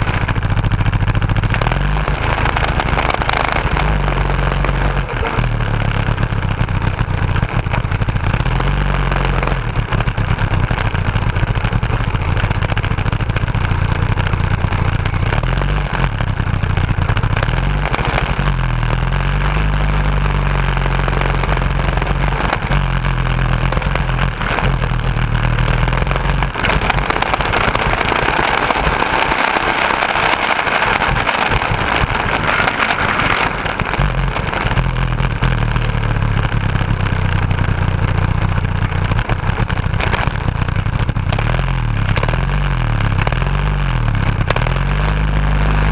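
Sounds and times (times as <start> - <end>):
go-kart engine running: 0.0 - 45.9.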